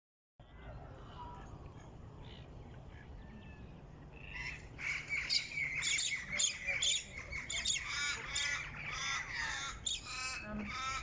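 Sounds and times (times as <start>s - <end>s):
birds calling: 0.4s - 11.0s.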